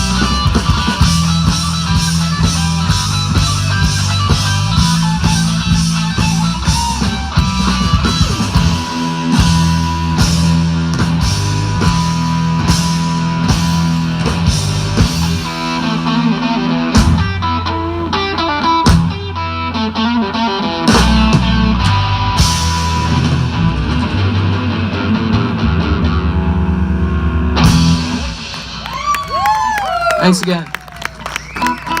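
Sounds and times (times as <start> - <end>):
blues-rock band playing: 0.0 - 32.0.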